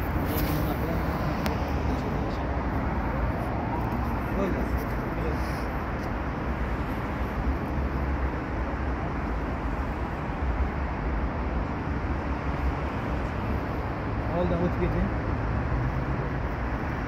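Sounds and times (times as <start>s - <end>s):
low urban rumble: 0.0s - 17.0s.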